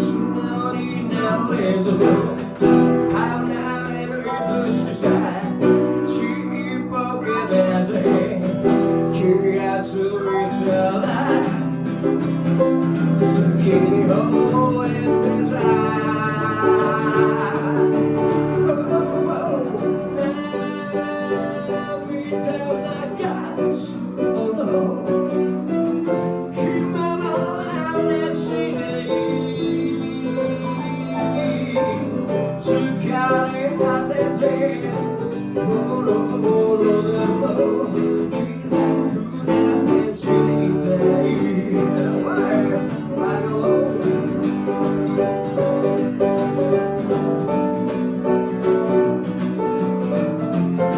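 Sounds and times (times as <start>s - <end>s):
band playing guitar-led song: 0.0s - 6.4s, 7.2s - 50.9s.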